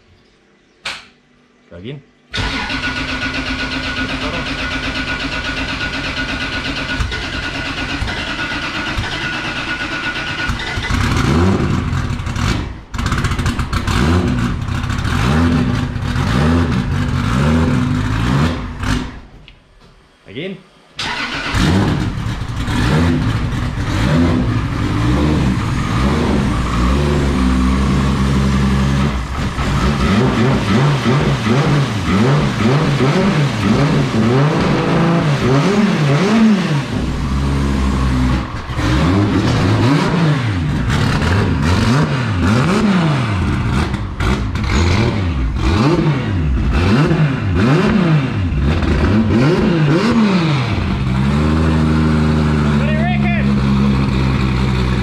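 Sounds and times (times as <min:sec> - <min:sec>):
car engine revving: 0:02.4 - 0:19.3, 0:21.0 - 0:55.0.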